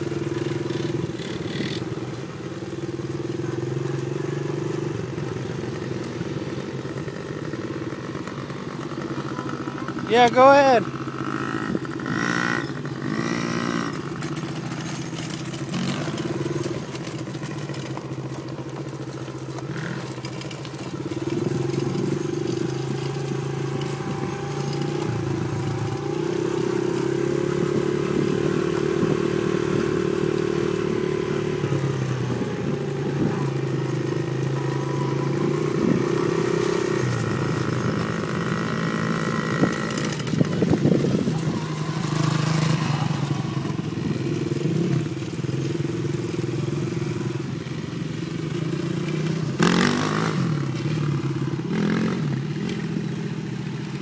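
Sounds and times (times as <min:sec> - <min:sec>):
dirt bike and quad engines revving: 0:00.0 - 0:54.0.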